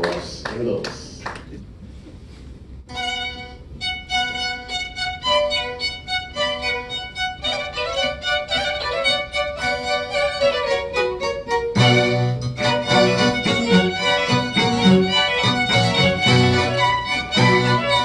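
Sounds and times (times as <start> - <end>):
violins playing classical melody: 2.9 - 18.0.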